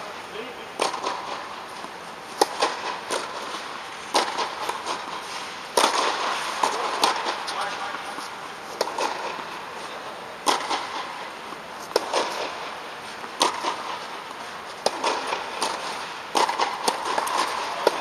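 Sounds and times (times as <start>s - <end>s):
racquets hitting tennis ball: 0.7s - 18.0s.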